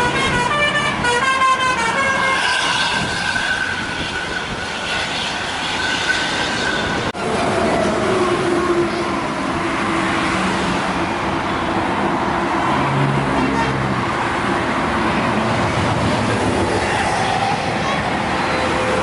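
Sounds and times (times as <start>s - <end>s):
highway traffic passing: 0.0s - 19.0s.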